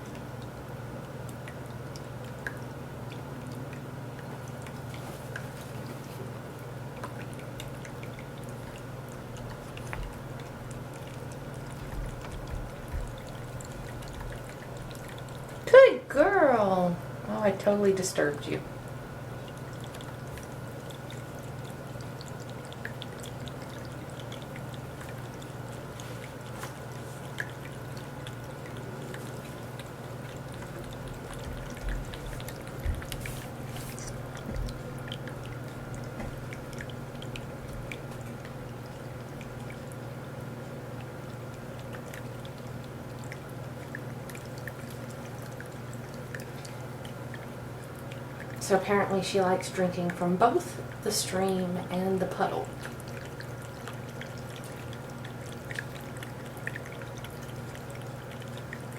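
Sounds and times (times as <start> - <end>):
cat lapping water: 0.0 - 15.7, 18.7 - 58.9
small pump humming: 0.0 - 58.9
water trickling: 0.0 - 58.9.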